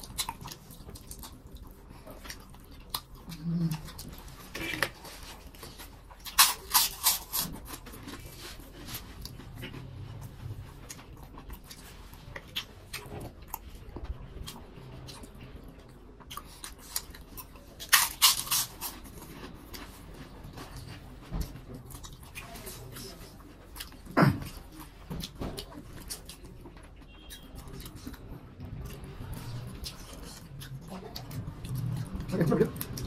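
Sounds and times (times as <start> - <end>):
people chewing and lip-smacking: 0.0 - 33.0.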